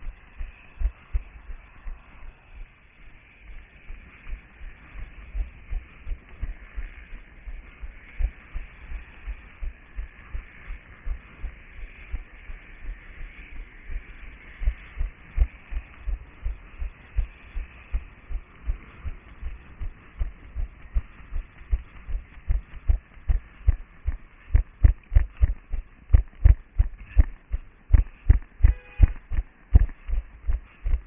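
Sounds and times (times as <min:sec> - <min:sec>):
running footsteps: 0:03.5 - 0:31.0.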